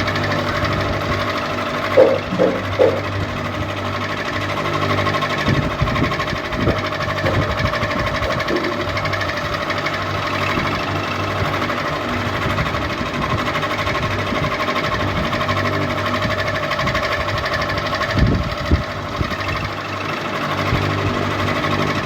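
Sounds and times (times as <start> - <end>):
ceiling fan whirring: 0.0 - 19.6.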